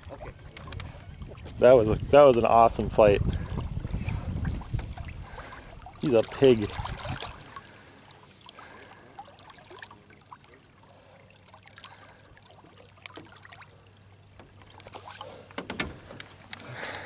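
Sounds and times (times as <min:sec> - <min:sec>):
water trickling and lapping: 0:00.0 - 0:17.0.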